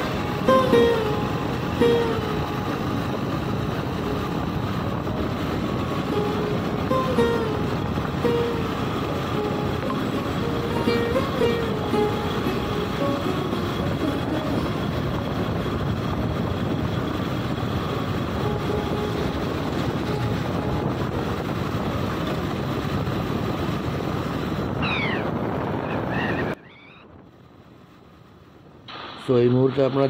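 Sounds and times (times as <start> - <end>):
vehicle engine running: 0.0 - 24.8
wind rushing on microphone: 0.0 - 30.0.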